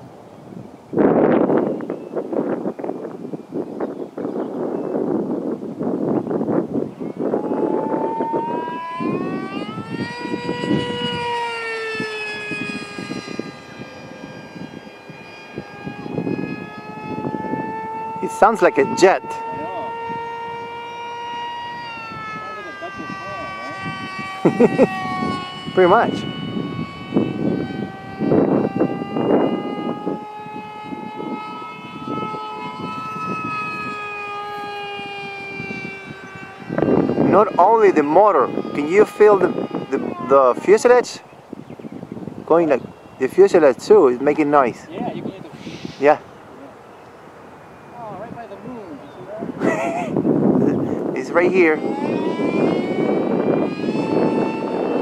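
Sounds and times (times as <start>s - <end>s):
electric motor and propeller whine: 0.0s - 55.0s
wind on microphone: 0.0s - 55.0s.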